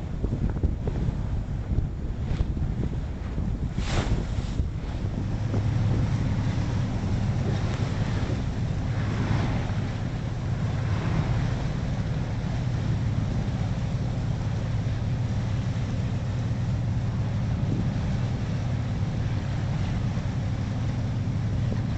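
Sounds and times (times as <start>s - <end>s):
boat engine droning: 0.0s - 21.9s
water rushing in wake: 0.0s - 21.9s.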